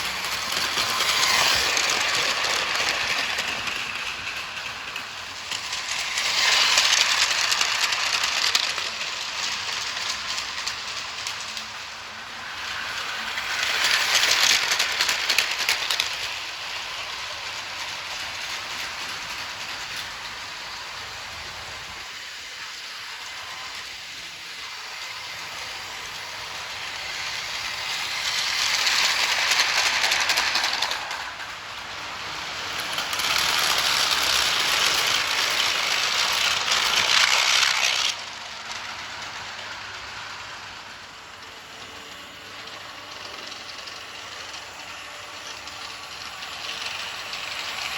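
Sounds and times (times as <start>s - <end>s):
hiss: 0.0s - 47.9s
toy train rattling on track: 0.0s - 47.9s.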